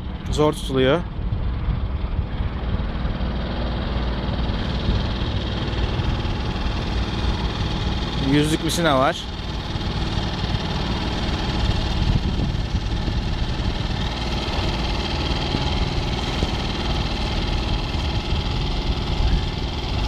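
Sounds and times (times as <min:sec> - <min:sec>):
boat engine rumbling: 0:00.0 - 0:20.0
wind noise: 0:00.0 - 0:20.0.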